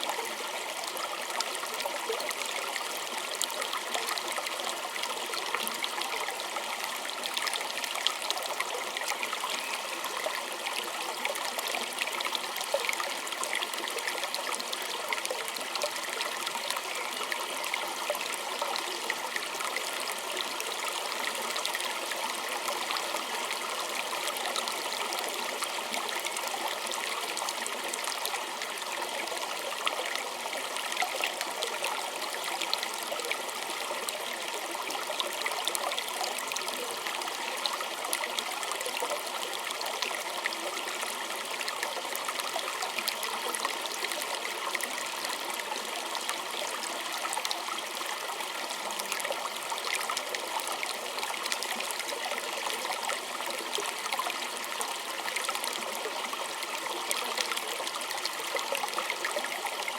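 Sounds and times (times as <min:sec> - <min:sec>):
stream flowing and trickling: 0:00.0 - 0:59.9.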